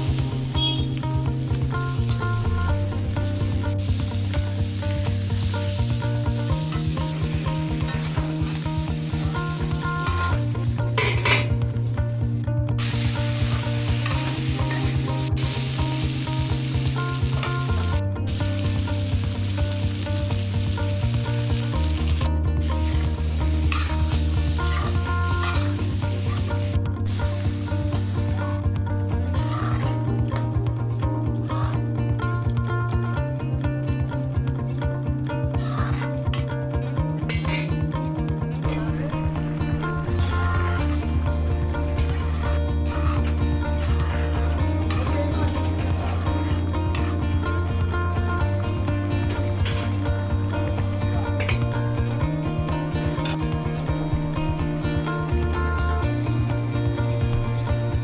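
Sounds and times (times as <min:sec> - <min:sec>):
food sizzling in a pan: 0:00.0 - 0:32.6, 0:35.3 - 0:36.2, 0:38.7 - 0:57.9.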